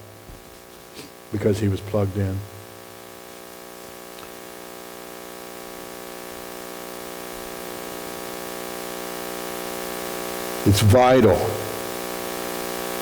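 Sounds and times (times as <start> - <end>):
electrical mains hum: 0.0 - 13.0
static hiss: 0.0 - 13.0.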